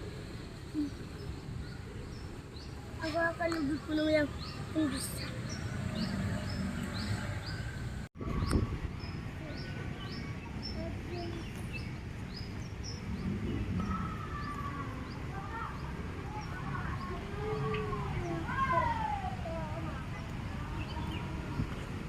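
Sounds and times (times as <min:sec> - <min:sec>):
low outdoor murmur: 0:00.0 - 0:22.0.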